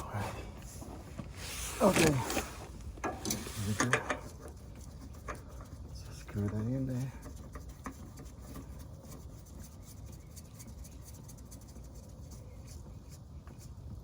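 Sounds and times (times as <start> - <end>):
low steady hum: 0.0 - 14.0
oil filter scratching and clicking: 0.4 - 14.0.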